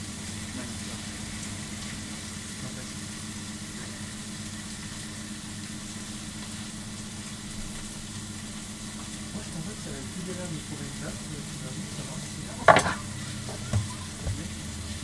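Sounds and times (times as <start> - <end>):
extractor fan humming: 0.0 - 15.0
meat sizzling on griddle: 0.0 - 15.0.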